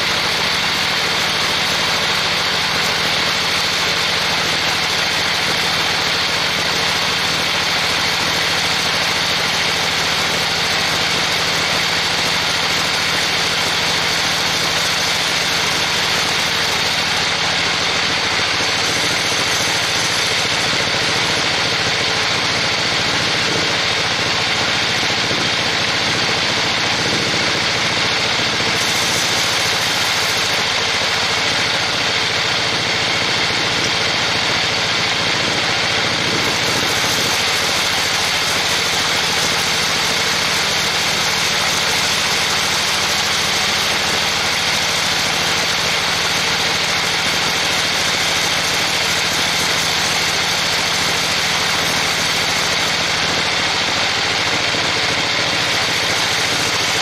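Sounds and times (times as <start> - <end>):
saw blade cutting log: 0.0 - 57.0
sawmill machine hum: 0.0 - 57.0.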